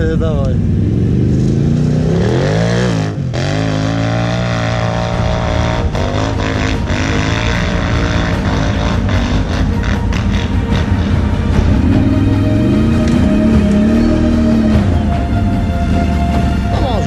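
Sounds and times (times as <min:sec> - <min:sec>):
atv engine revving: 0:00.0 - 0:16.6.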